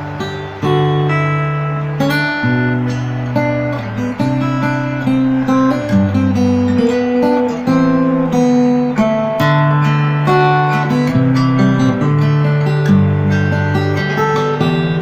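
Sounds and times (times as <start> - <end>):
acoustic guitar fingerstyle: 0.0 - 15.0.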